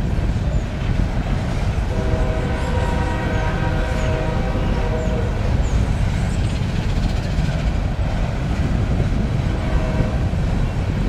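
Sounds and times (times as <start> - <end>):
train rolling across bridge: 0.0 - 11.0.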